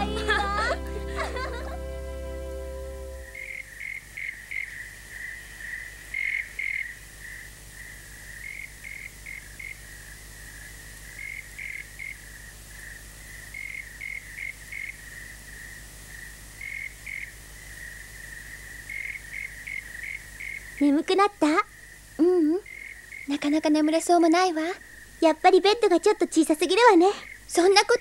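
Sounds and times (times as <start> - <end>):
crickets chirping: 0.8 - 28.0.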